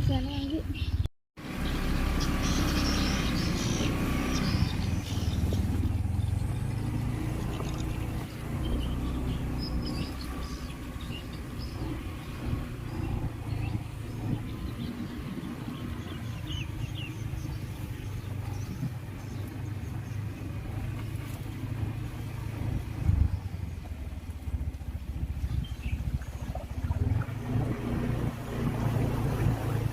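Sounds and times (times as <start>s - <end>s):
vehicle engine rumbling: 0.0s - 29.9s.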